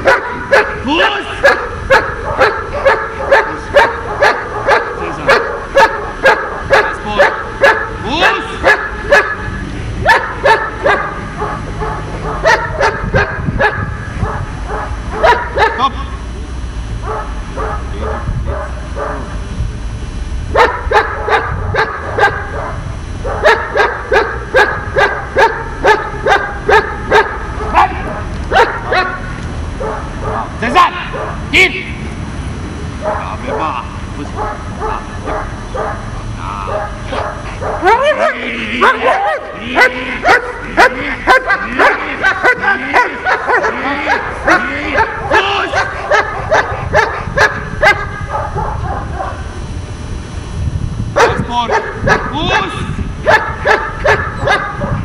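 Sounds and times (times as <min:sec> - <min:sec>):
dog barking: 0:00.0 - 0:15.9, 0:17.0 - 0:19.4, 0:20.5 - 0:31.4, 0:33.0 - 0:49.5, 0:51.2 - 0:52.4, 0:53.2 - 0:55.0.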